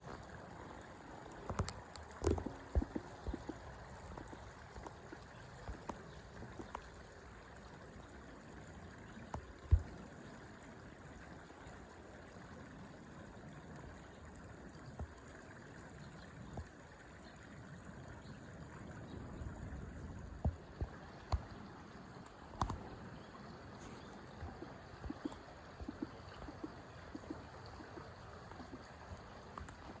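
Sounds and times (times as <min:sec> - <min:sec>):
river water flowing: 0:00.0 - 0:30.0.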